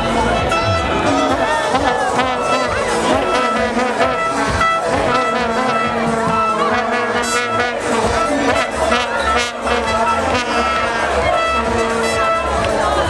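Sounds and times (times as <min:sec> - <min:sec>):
crowd shouting: 0:00.0 - 0:13.0
crowd singing: 0:00.0 - 0:13.0
fan horns blowing: 0:00.0 - 0:13.0.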